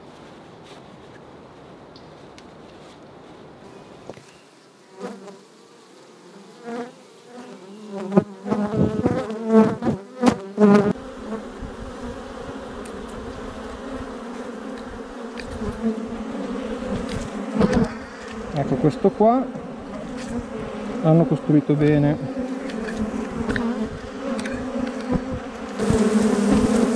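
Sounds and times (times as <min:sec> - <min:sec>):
bee colony humming: 0:03.5 - 0:26.9
bees zipping past: 0:04.2 - 0:26.9.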